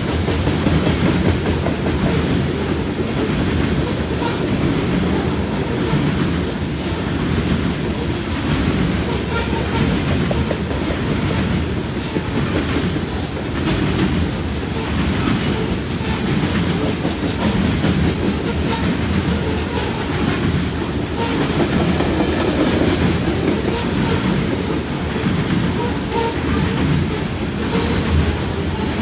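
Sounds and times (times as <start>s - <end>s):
clickety-clack over rail joints: 0.0s - 29.0s
freight train wheels rumbling: 0.0s - 29.0s.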